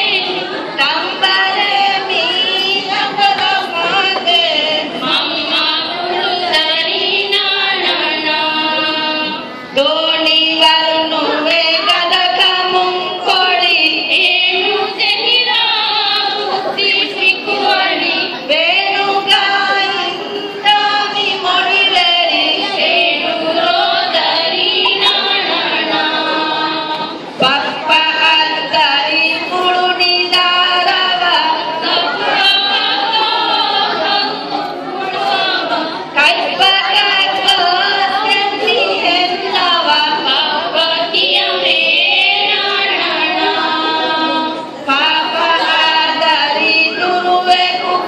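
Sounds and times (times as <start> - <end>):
women chanting slow melody: 0.0 - 48.0.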